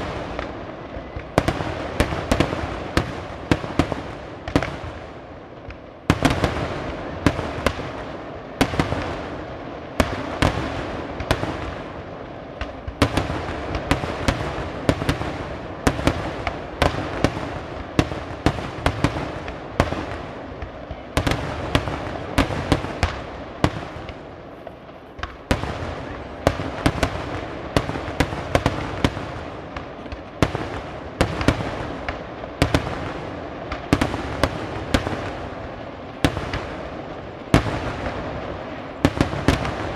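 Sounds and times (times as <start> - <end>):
continuous background noise: 0.0 - 39.9
fireworks bangs: 0.0 - 39.9.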